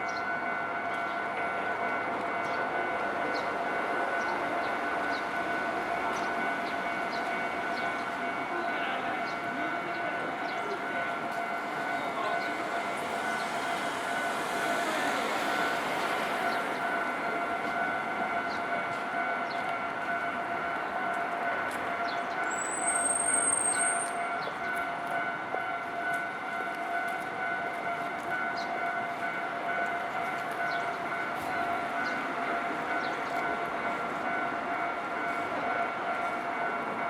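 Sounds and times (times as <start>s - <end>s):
level-crossing alarm ringing: 0.0s - 37.0s
train running noise: 0.0s - 37.0s.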